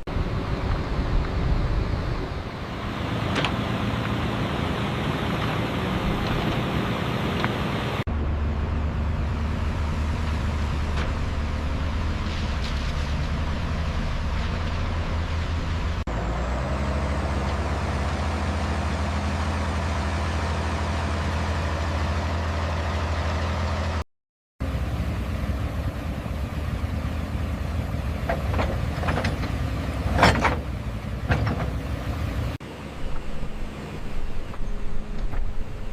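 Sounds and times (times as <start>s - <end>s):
truck engine drone: 0.0s - 24.0s, 24.6s - 35.9s.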